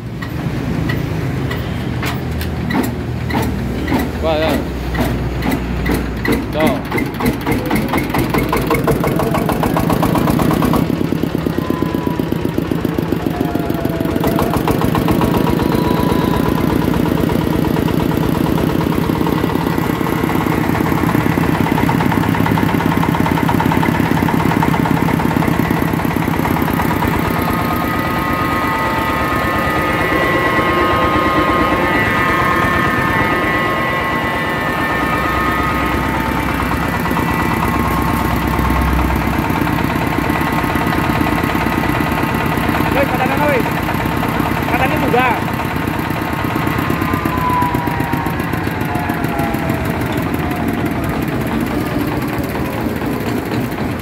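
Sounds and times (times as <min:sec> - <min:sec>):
diesel engine knocking steadily: 0:00.0 - 0:54.0
steady higher tones from mill: 0:07.8 - 0:54.0.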